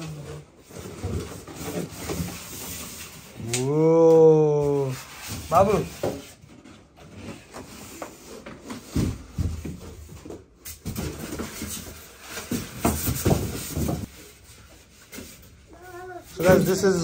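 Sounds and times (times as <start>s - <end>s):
cardboard and foam rustling: 0.0s - 17.0s.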